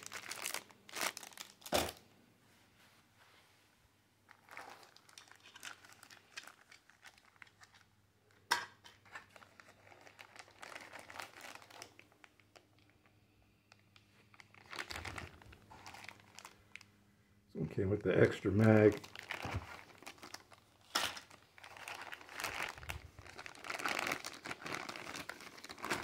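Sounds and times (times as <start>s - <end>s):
plastic bags crinkling: 0.0s - 2.0s, 4.3s - 7.9s, 9.0s - 13.0s, 13.7s - 16.9s, 17.8s - 26.0s.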